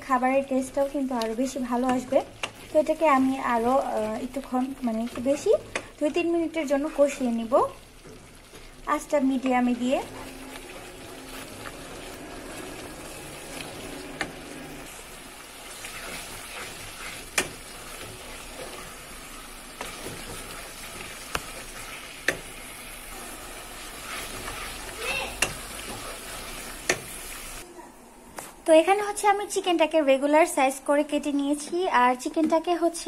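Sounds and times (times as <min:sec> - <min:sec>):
spice paste sizzling in a pot: 0:00.0 - 0:27.6.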